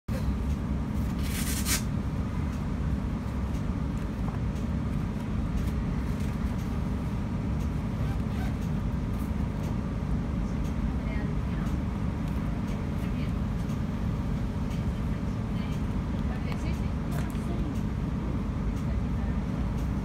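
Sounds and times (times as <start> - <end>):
tram cabin rumble: 0.1 - 20.0.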